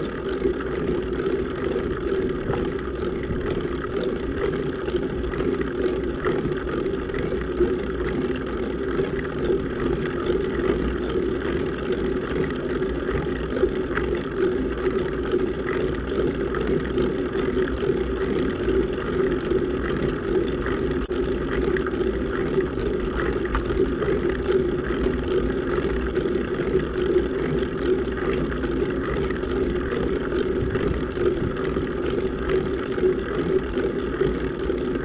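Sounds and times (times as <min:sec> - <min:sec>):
bicycle rolling on tarmac: 0:00.0 - 0:35.0
faint ticks: 0:00.0 - 0:35.0.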